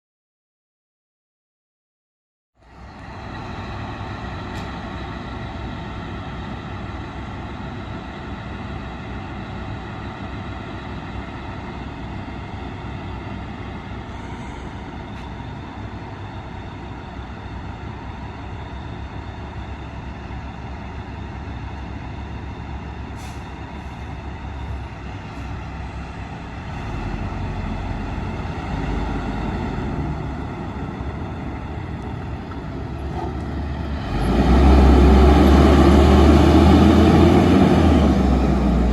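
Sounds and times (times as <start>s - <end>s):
diesel truck engine whine: 2.6s - 38.9s.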